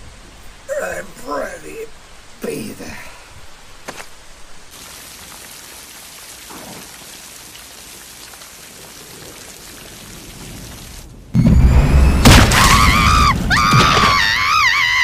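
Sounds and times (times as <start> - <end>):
scattered raindrops: 0.0 - 15.0
steady rain hiss: 0.0 - 15.0.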